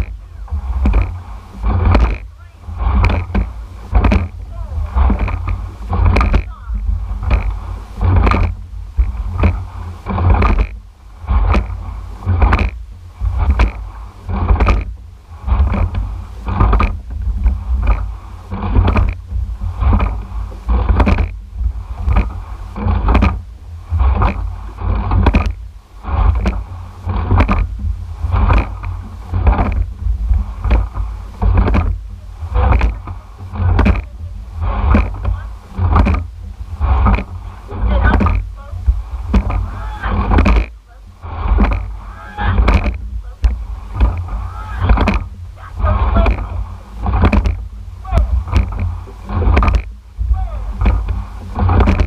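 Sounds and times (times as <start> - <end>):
heavy low rumble: 0.0 - 52.0
oars knocking in oarlocks: 0.0 - 52.0
rushing water: 0.0 - 52.0.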